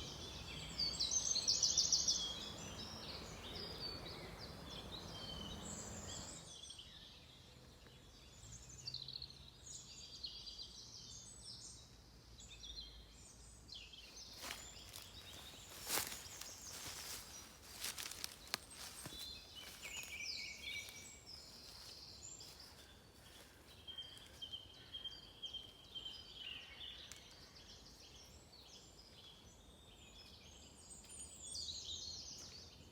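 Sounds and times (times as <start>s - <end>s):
birds chirping and trilling: 0.0s - 32.9s
low outdoor background: 0.0s - 32.9s.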